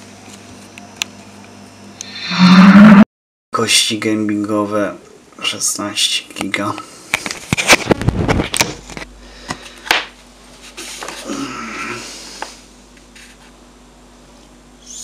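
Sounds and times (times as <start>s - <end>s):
faint steady hum: 0.0s - 3.0s, 3.6s - 15.0s.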